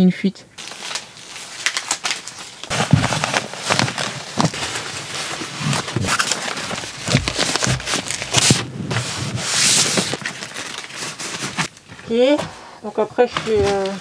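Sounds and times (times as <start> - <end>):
plastic membrane crinkling: 0.6 - 14.0.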